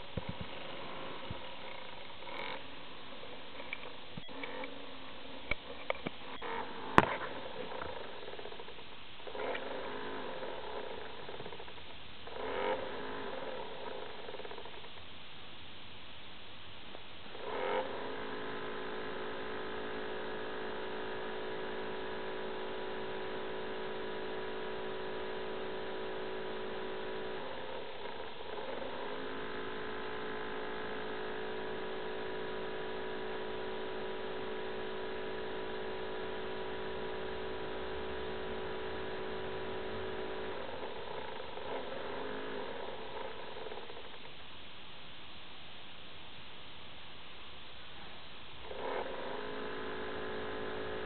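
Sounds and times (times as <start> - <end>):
laptop cooling fan whine: 0.0 - 45.7.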